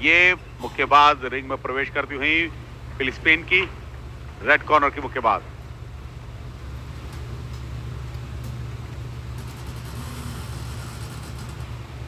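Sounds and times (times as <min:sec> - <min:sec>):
arena background noise: 0:00.0 - 0:12.0
steady low hum: 0:00.0 - 0:12.0.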